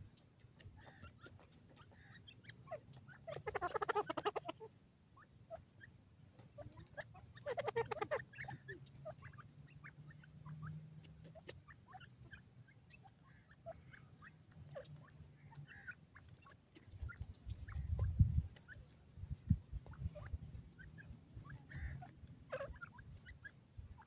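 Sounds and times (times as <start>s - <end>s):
birds chirping and clucking: 0.0s - 24.0s.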